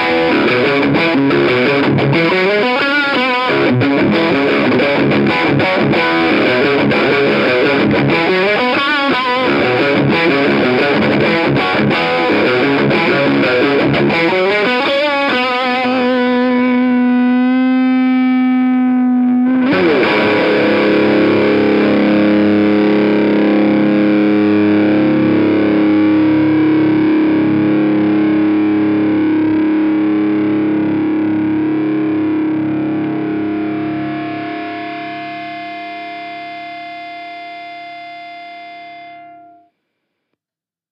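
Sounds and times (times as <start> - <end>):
distorted electric guitar: 0.0 - 39.7.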